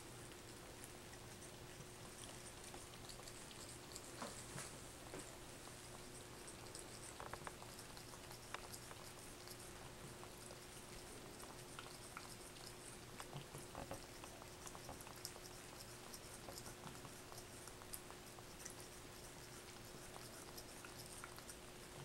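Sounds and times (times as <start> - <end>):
cat licking wet paw: 0.0 - 22.0
faint steady hum: 0.0 - 22.0.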